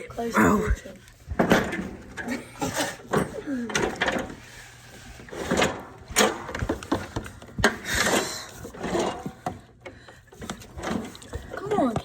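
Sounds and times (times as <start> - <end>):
knocks and clicks of tools: 1.2 - 4.4, 5.2 - 12.0.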